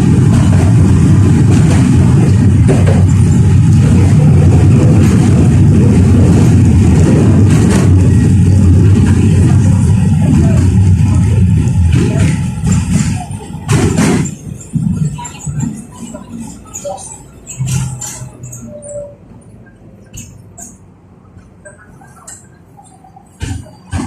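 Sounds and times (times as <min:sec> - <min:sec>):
tram wheels rumbling on rails: 0:00.0 - 0:24.0.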